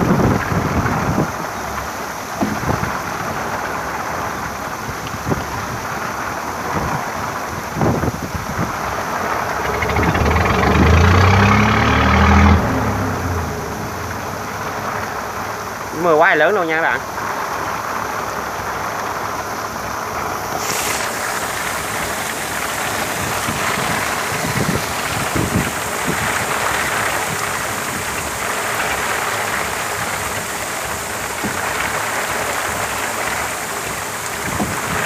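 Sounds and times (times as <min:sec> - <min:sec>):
heavy rain downpour: 0:00.0 - 0:35.0
wind gusts rumbling on microphone: 0:00.0 - 0:35.0.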